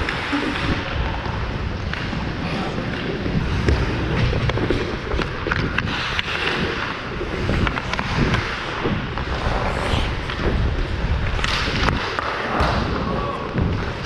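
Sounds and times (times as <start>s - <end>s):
hockey sticks and puck clicking: 0.0s - 14.0s
low rumble: 0.0s - 14.0s
skates scraping on ice: 0.0s - 14.0s.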